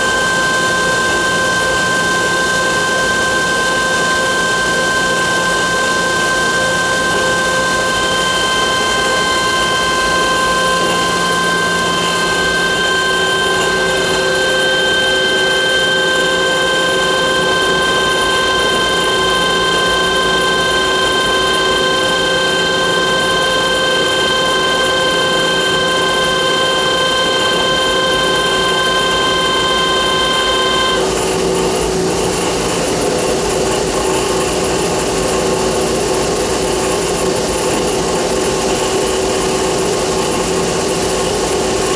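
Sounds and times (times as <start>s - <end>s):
high-pitched machine whine: 0.0s - 41.9s
mechanical hum: 0.0s - 41.9s.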